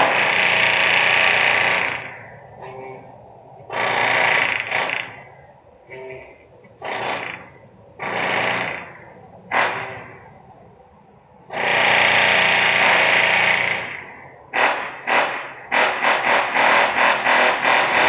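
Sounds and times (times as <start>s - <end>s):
industrial noise bursts: 0.0s - 18.0s.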